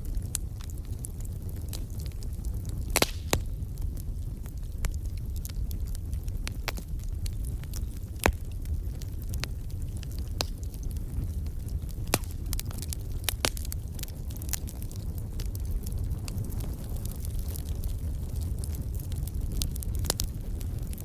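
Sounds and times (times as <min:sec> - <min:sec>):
low steady fire rumble: 0:00.0 - 0:21.0
wood fire crackling and popping: 0:00.0 - 0:21.0.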